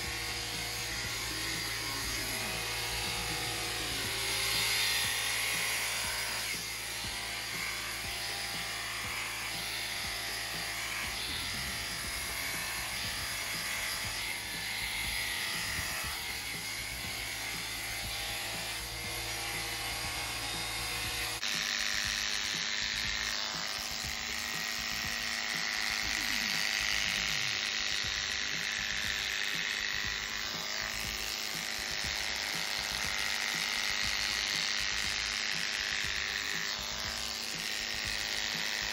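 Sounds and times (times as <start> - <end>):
electric clippers buzzing: 0.0 - 38.9.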